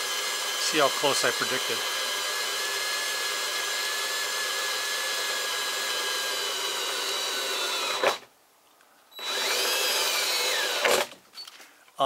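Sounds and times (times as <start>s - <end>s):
drill boring through sheet metal: 0.0s - 8.2s, 9.2s - 11.1s
electric drill whining: 0.0s - 8.3s, 9.2s - 11.5s.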